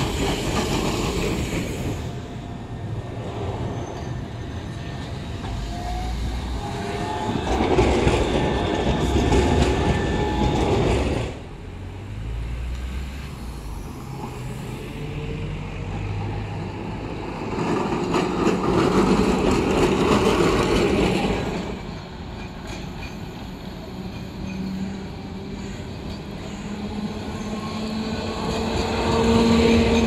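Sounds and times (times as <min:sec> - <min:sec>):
tram humming: 0:00.0 - 0:30.0
tram wheels rumbling on rails: 0:00.0 - 0:30.0.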